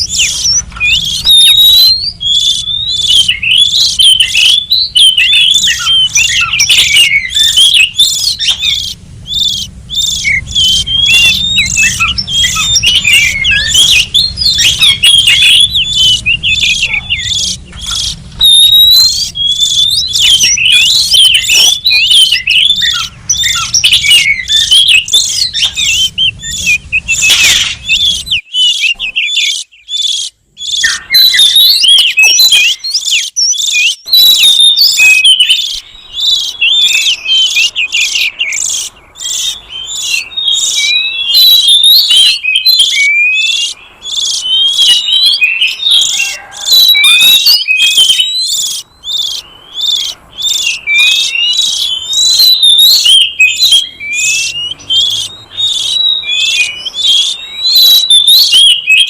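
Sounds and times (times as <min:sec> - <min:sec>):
bird whistled chattering calls: 0:00.0 - 0:59.0.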